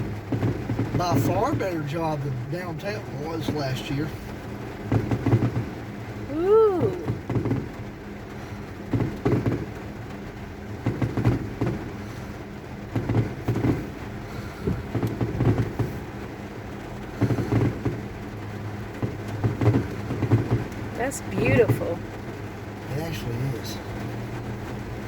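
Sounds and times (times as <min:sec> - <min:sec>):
muffled fireworks booms: 0:00.0 - 0:23.0
heavy rain on car: 0:00.0 - 0:25.0.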